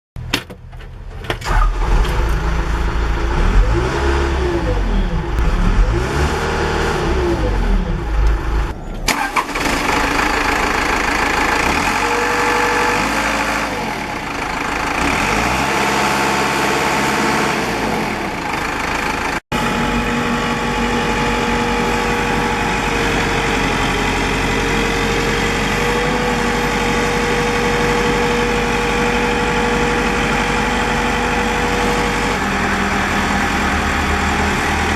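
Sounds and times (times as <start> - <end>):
diesel engine revving: 1.4 - 34.9.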